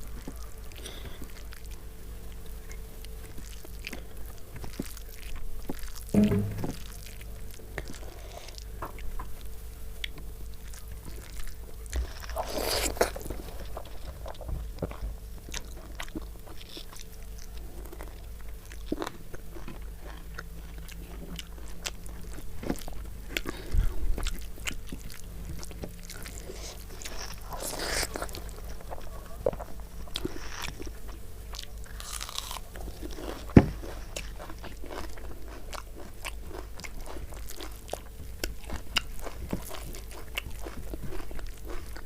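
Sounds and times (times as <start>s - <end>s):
person chewing crunchy food: 0.0s - 6.1s, 6.8s - 42.0s.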